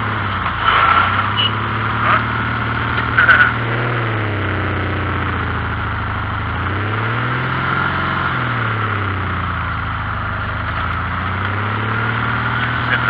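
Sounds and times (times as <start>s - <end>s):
buggy engine revving: 0.0s - 13.0s.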